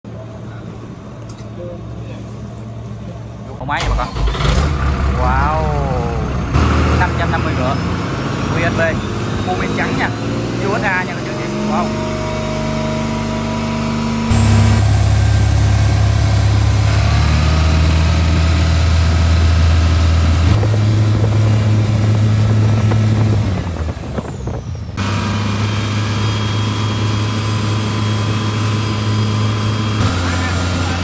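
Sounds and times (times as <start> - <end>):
boat engine droning: 5.2 - 31.0.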